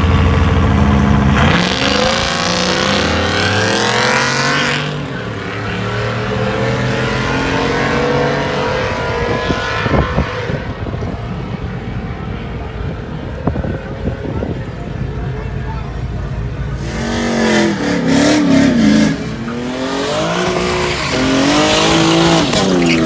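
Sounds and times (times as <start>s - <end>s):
truck engine accelerating: 0.0s - 23.0s.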